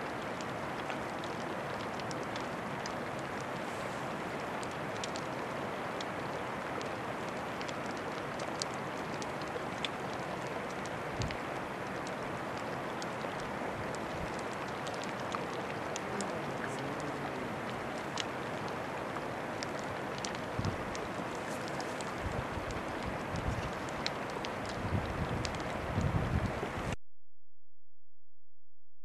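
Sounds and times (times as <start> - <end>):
melting ice crackling and popping: 0.0 - 27.0
hiss of open water: 0.5 - 26.9.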